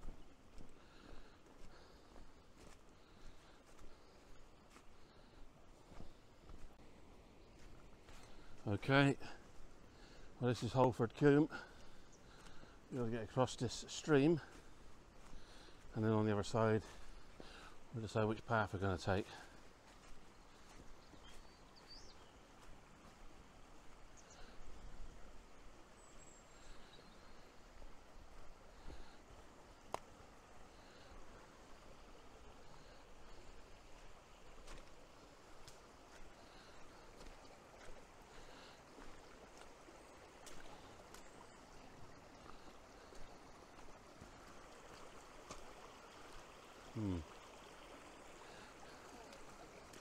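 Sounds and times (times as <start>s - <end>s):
small stream rushing: 0.0s - 50.0s.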